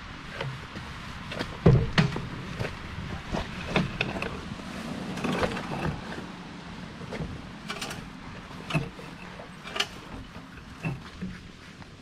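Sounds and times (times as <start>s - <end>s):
gravel crunching: 0.0s - 12.0s
motorcycle knocks and scrapes: 0.2s - 6.4s, 7.0s - 12.0s.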